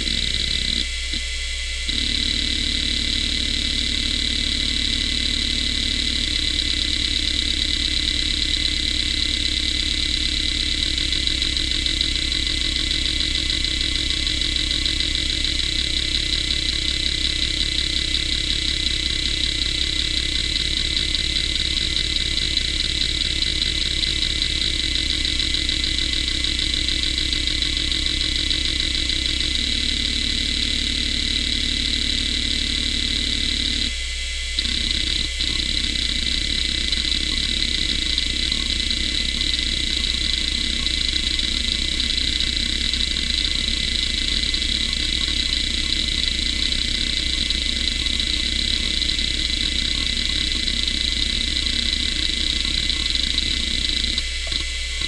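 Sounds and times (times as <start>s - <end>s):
hard drive seek ticking: 0.0s - 55.0s
hard drive spindle whine: 0.0s - 55.0s.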